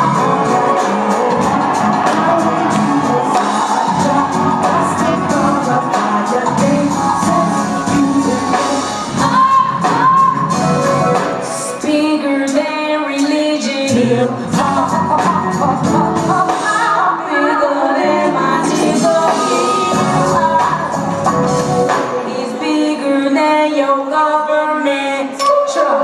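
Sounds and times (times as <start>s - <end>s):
live soul band: 0.0s - 25.4s
woman singing: 0.0s - 26.0s.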